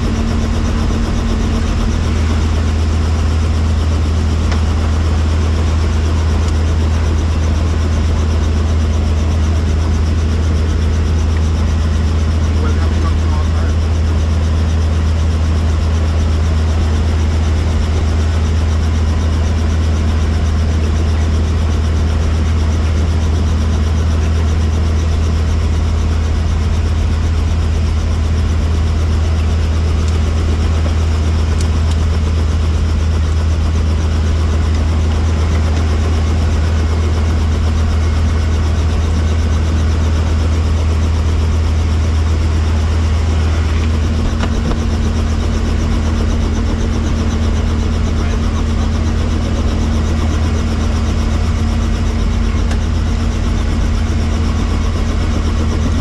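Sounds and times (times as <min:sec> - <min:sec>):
helicopter running: 0:00.0 - 0:56.0.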